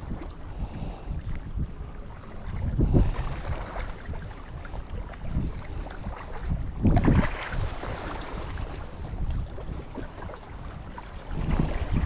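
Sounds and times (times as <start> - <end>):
sea wash: 0.0 - 12.0
wind rumbling on microphone: 0.0 - 12.0.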